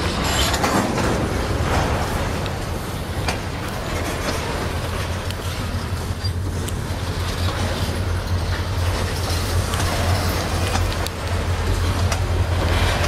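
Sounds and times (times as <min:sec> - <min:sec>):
freight train rumbling past: 0:00.0 - 0:13.0
wheels clacking over rail joints: 0:00.0 - 0:13.0.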